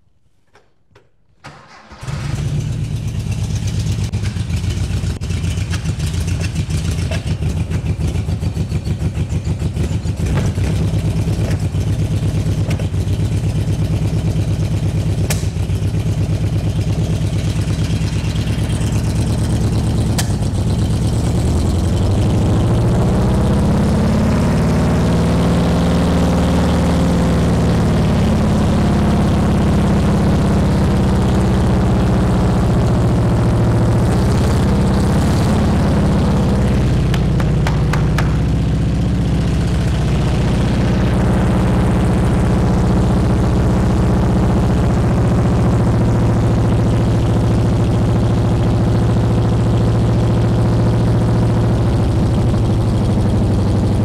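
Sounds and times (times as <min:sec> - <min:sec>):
car engine starting and idling: 0:01.0 - 0:54.0
engine revving: 0:01.8 - 0:54.0.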